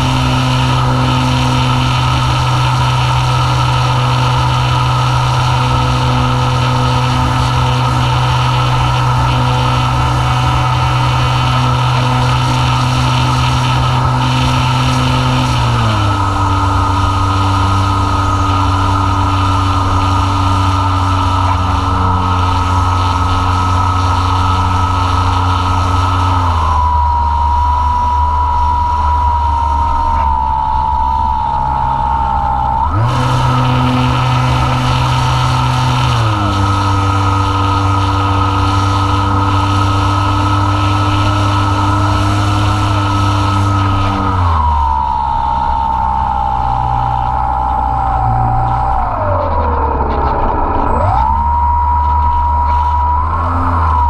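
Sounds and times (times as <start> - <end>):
electric motor and propeller whining: 0.0 - 54.0.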